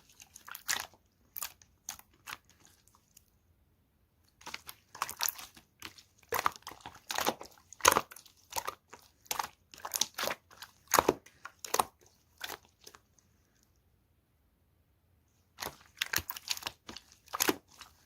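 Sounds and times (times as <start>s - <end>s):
slime squelching and popping: 0.0s - 3.3s, 4.3s - 13.1s, 15.6s - 18.0s.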